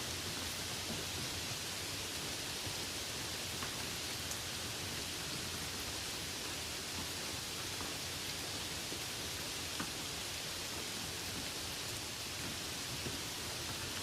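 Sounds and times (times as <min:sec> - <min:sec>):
light rain hissing: 0:00.0 - 0:14.0.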